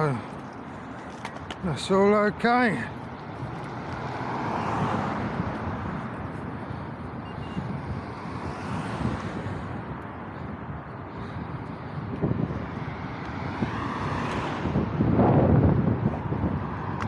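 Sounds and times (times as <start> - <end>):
road traffic passing: 0.0 - 17.0
wind on microphone: 3.2 - 17.0.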